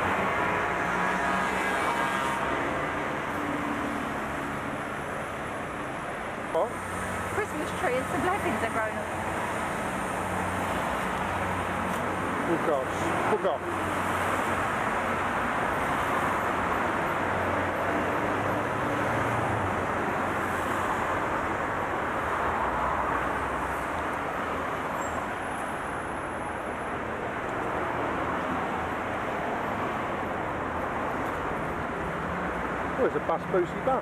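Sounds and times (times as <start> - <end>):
city traffic noise: 0.0 - 34.0.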